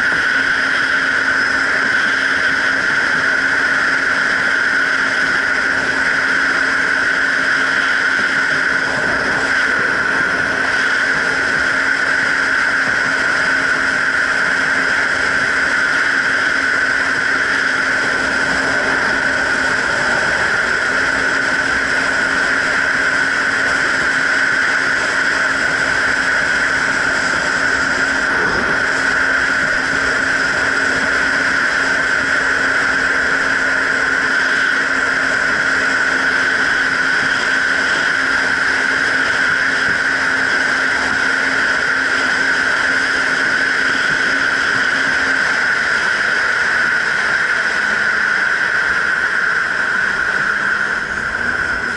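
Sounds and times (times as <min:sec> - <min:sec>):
jet ski engine running: 0:00.0 - 0:51.9
wind: 0:00.0 - 0:51.9.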